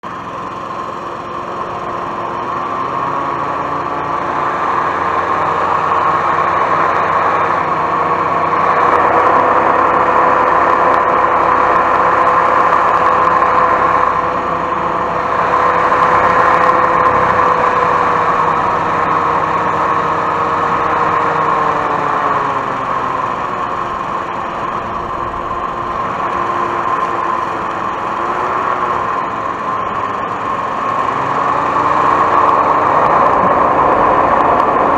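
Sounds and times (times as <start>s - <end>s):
hovercraft engine and fan running: 0.0s - 34.9s.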